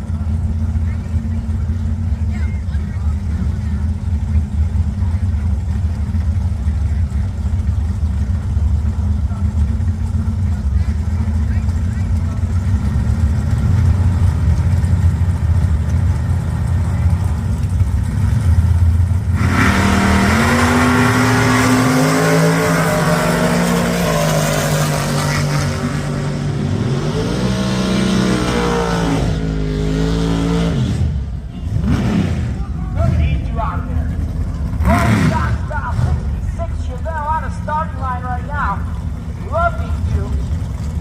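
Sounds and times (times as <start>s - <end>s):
drag racing engines: 0.0s - 41.0s.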